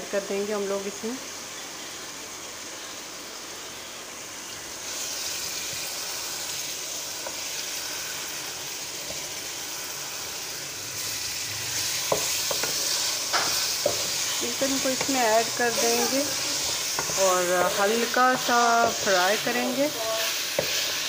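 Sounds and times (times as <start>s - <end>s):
chicken sizzling in a pot: 0.0s - 21.0s.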